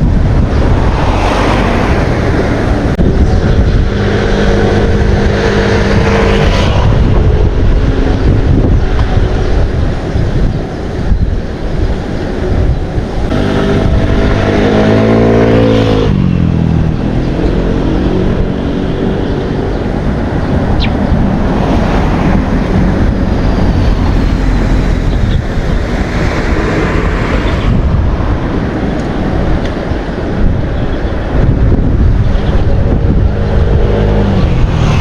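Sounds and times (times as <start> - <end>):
vehicle engine passing by: 0.0 - 9.9, 13.0 - 29.9, 31.5 - 35.0
wind noise on microphone: 0.0 - 35.0.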